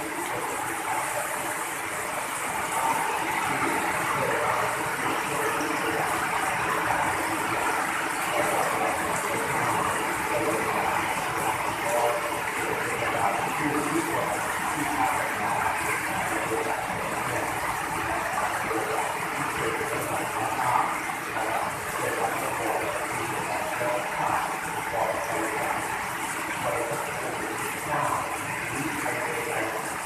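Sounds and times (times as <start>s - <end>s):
heavy rain falling: 0.0s - 30.0s
water pouring off a roof: 0.0s - 30.0s.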